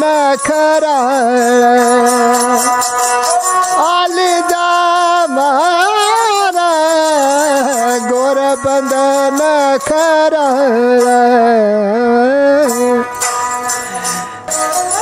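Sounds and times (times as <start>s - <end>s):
man singing folk song: 0.0s - 13.2s.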